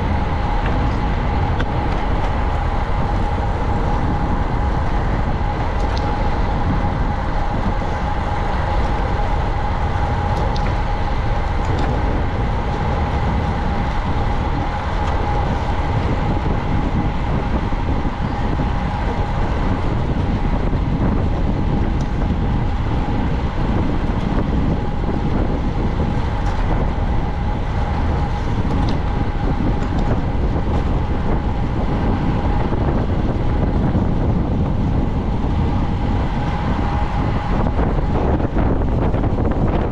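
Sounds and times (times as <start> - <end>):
thin steady whine: 0.0 - 39.9
wind and road noise: 0.0 - 39.9.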